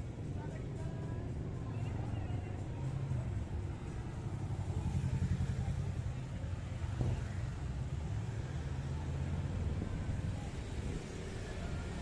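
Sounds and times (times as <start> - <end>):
cars and motorbikes passing: 0.0 - 12.0.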